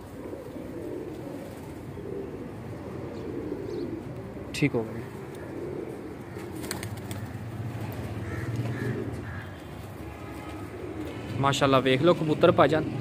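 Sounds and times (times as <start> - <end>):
pigeons cooing: 0.0 - 12.3.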